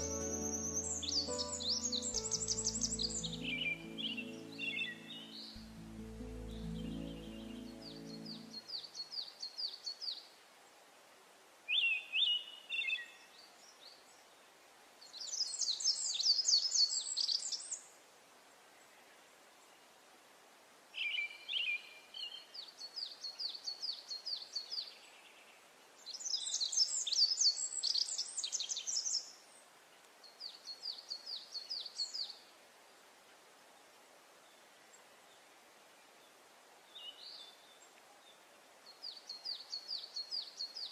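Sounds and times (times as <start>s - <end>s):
songbirds chirping: 0.0s - 10.9s, 11.7s - 40.9s.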